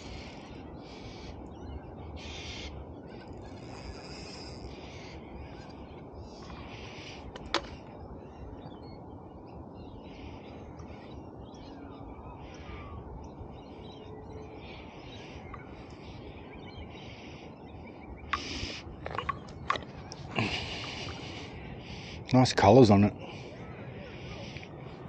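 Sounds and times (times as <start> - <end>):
wind rumble on microphone: 0.0 - 22.3
birds calling: 0.0 - 25.0.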